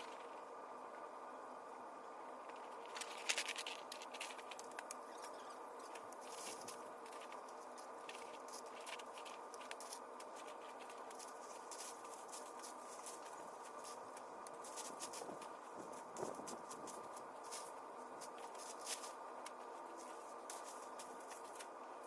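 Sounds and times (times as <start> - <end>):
vines crackling and clicking: 0.0 - 0.6, 2.3 - 22.0
steady hiss: 0.0 - 22.0.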